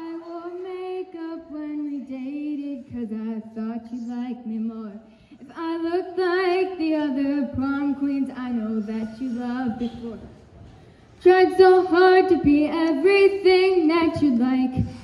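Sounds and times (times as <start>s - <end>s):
girl singing: 0.0s - 10.3s, 11.2s - 15.0s.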